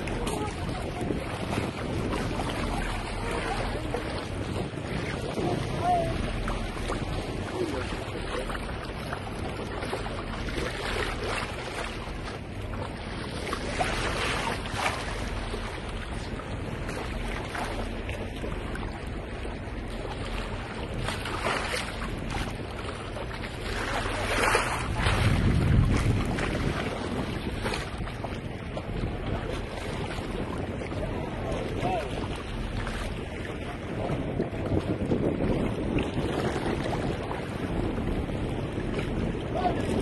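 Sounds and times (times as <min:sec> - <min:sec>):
sea water rushing along hull: 0:00.0 - 0:40.0
wind buffeting microphone: 0:00.0 - 0:40.0.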